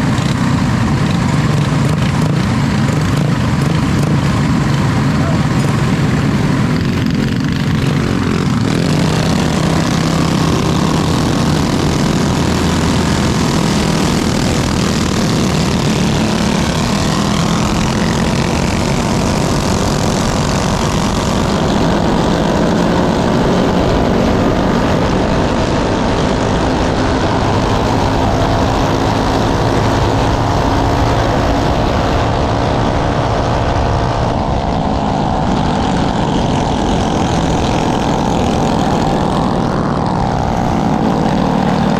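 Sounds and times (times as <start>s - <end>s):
propeller engine running: 0.0s - 41.9s
rushing air: 0.0s - 41.9s.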